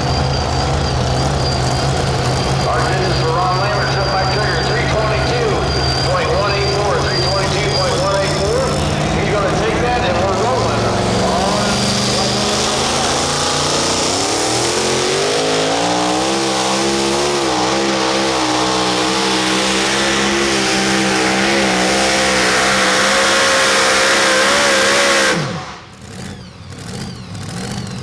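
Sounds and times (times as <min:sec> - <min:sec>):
pulling truck engine at full throttle: 0:00.0 - 0:28.0.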